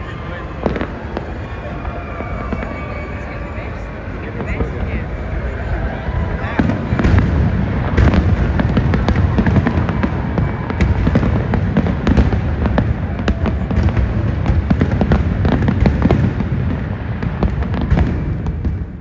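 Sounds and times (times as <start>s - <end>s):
fireworks crackling and popping: 0.0s - 3.4s, 4.2s - 19.0s
deep rumble: 0.0s - 19.0s.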